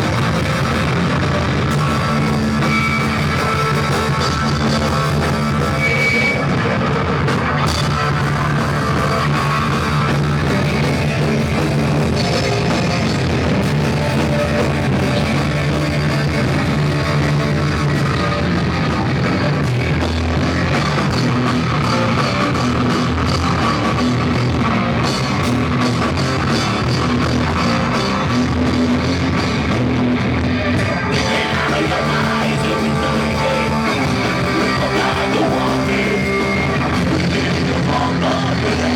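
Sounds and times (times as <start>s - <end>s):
distorted rock band playing: 0.0s - 38.9s.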